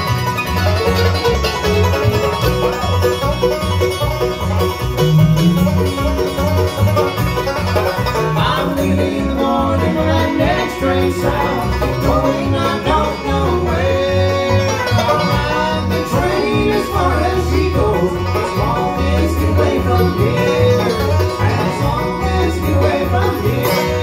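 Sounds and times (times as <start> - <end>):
bluegrass band playing: 0.0 - 24.0
upright bass: 0.0 - 24.0.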